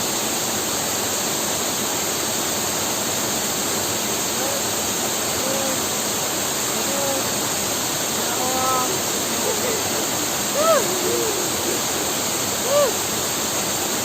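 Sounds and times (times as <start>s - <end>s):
waterfall pouring: 1.6s - 14.0s.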